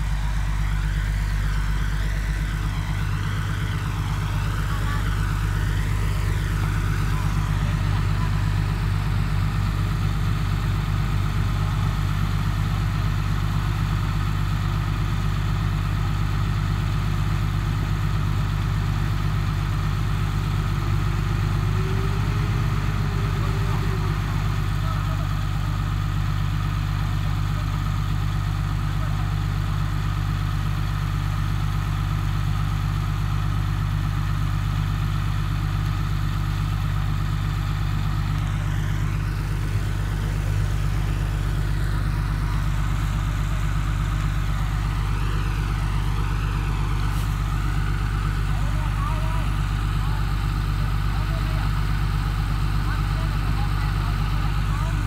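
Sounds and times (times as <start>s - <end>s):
diesel engine running steadily: 0.0s - 55.0s.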